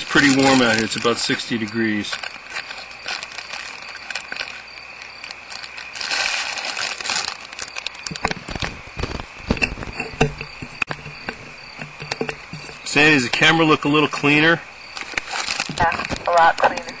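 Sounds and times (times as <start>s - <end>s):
faint high whine: 0.0s - 17.0s
handling clicks and scrapes: 0.0s - 17.0s.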